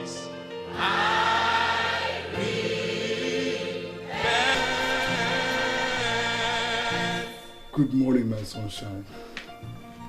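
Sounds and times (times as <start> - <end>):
slow gospel worship song: 0.0 - 9.5.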